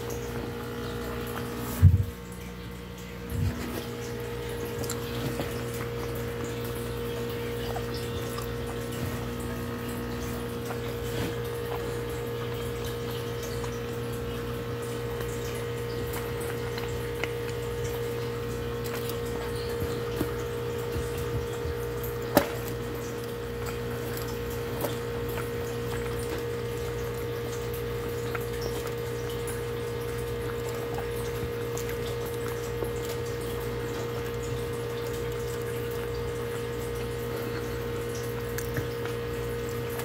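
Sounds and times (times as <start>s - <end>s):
machine hum with tones: 0.0s - 40.0s.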